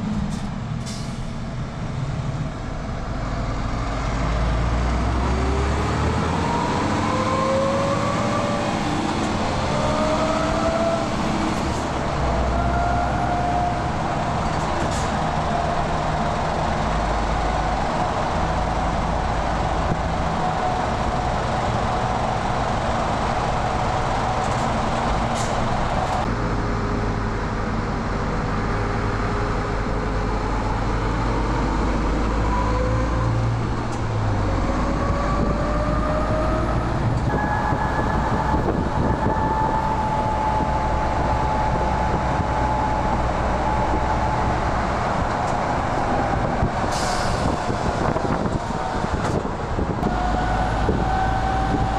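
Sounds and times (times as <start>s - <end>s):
road noise: 0.0s - 51.9s
truck diesel engine rumbling: 0.0s - 51.9s.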